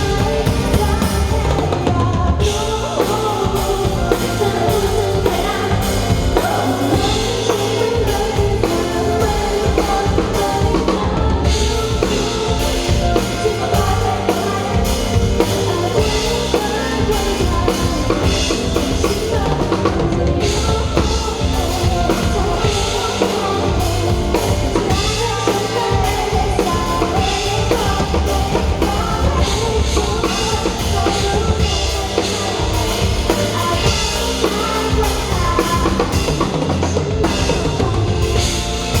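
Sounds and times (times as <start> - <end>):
drum kit beat: 0.0 - 39.0
person singing: 0.0 - 39.0
pop song over sound system: 0.0 - 39.0.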